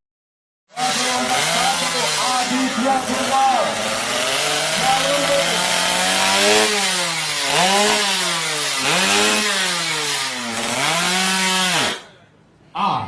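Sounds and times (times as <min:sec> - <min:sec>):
motorcycle engine revving: 0:00.7 - 0:12.1.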